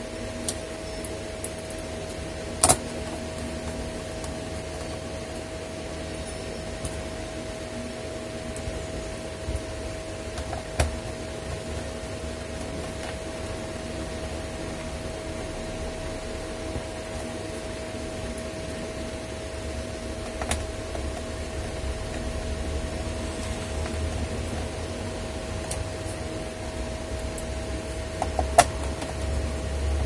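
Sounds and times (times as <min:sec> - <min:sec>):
electric fan humming: 0:00.0 - 0:30.0.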